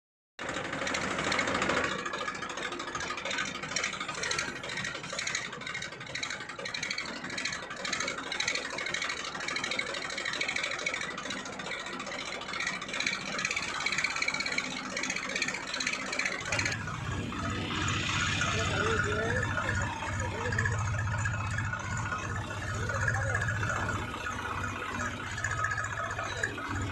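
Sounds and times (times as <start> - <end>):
engine running: 0.4 - 26.9.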